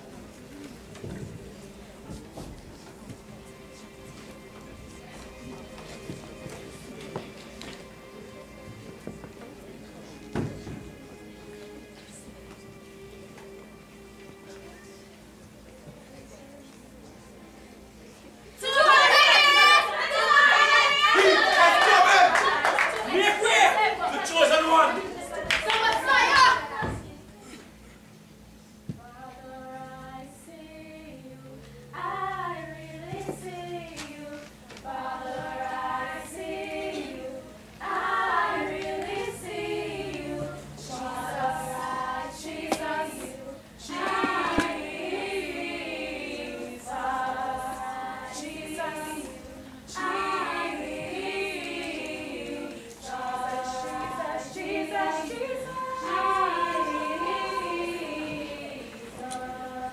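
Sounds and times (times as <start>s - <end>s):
children's choir singing: 0.0s - 16.4s, 18.0s - 27.6s, 28.9s - 59.9s.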